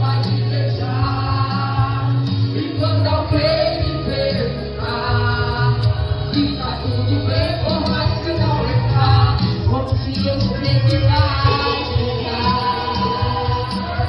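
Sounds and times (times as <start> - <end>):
band with steady bass line: 0.0 - 14.0
voices singing gospel song: 0.0 - 14.0.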